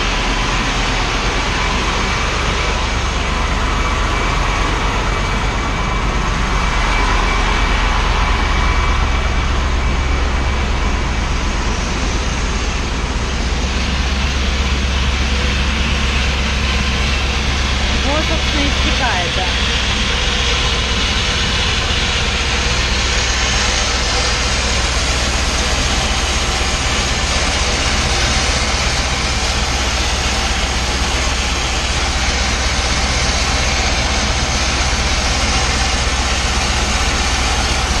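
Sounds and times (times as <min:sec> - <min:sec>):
engine and burner drone: 0:00.0 - 0:38.0.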